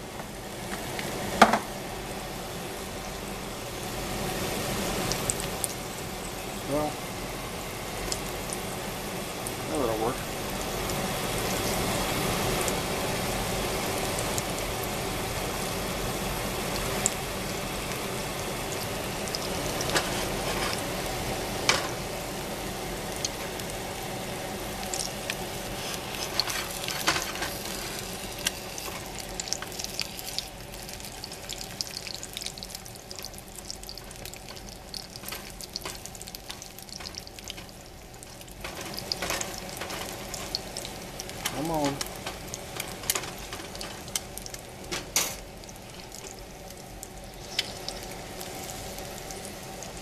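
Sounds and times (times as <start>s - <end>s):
eggs sizzling in oil: 0.0s - 50.0s.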